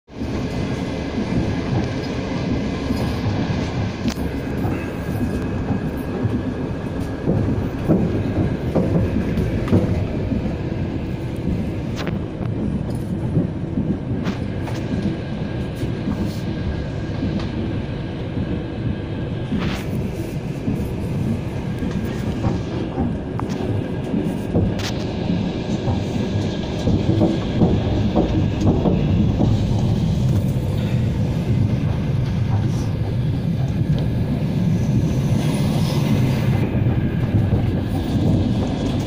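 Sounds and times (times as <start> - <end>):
sharp clicks of train wheels: 0.1 - 39.0
train wheels rumbling: 0.1 - 39.0.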